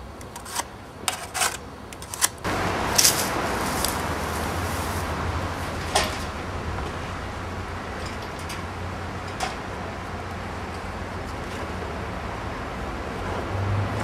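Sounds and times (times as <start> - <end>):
low background rumble: 2.4 - 14.0.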